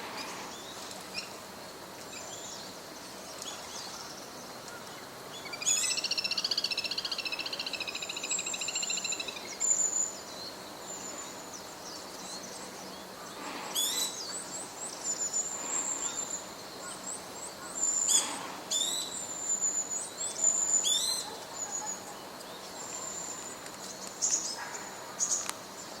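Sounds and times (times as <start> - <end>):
wild birds calling: 3.5 - 26.0.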